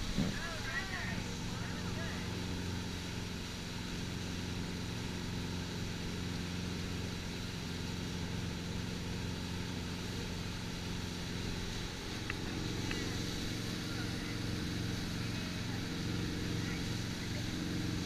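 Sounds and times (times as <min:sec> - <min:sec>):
boat engine droning: 0:00.0 - 0:18.0
rush of churning wake: 0:00.0 - 0:18.0.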